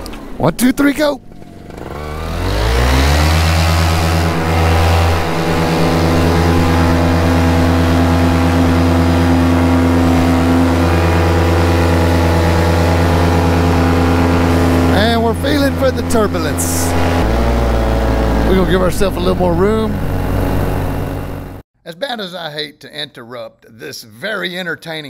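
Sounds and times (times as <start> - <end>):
paramotor engine at full throttle: 1.1 - 21.6.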